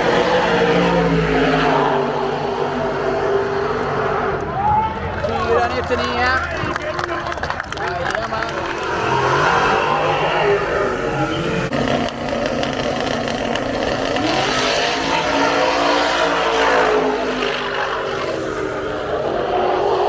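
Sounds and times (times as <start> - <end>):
drag race car engines at high revs: 0.0 - 20.0.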